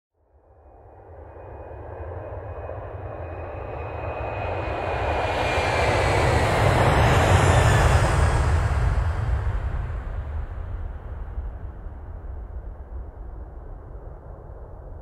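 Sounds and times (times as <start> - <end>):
jet airliner passing: 0.8 - 15.0.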